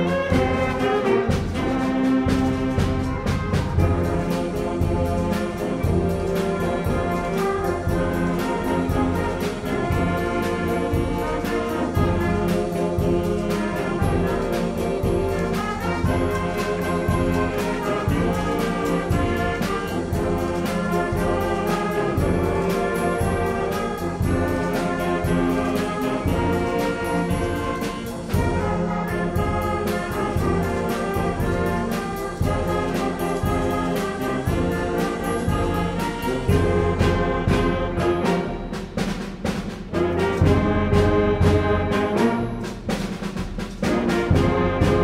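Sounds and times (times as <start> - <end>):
percussion strokes: 0.0 - 45.0.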